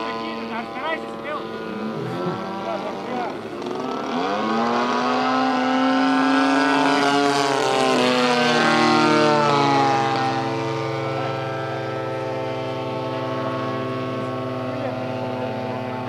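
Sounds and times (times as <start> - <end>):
model plane engine droning: 0.0 - 16.0.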